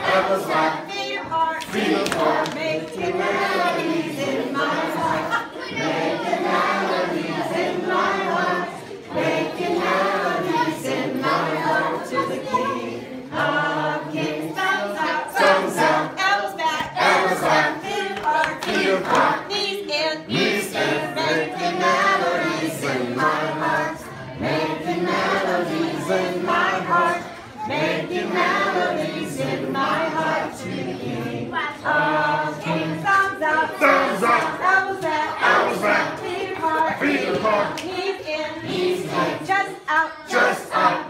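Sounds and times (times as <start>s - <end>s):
children singing in chorus: 0.0s - 41.0s.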